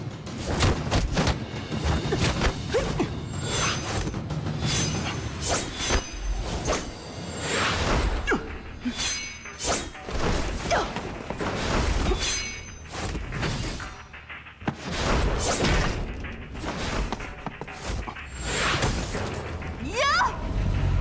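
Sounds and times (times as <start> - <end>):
swishes of blows and weapons: 0.0 - 19.6
background music: 0.0 - 21.0.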